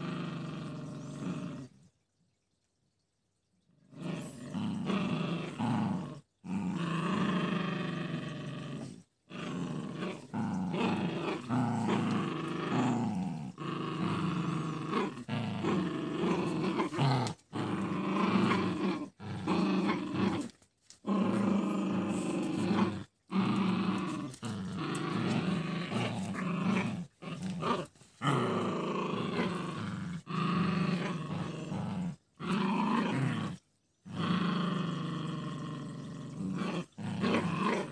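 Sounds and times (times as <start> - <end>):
dogs growling in play: 0.0 - 1.9, 3.8 - 37.9.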